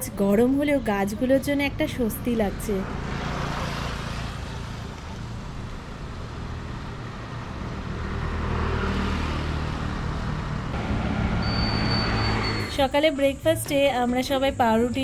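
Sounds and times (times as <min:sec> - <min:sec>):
road traffic passing: 0:00.0 - 0:15.0
vehicle engine: 0:01.3 - 0:13.4.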